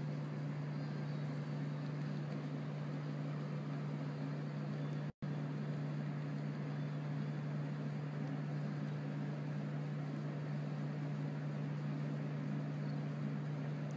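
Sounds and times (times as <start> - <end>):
constant hiss: 0.0 - 13.9
low machine hum: 0.0 - 13.9.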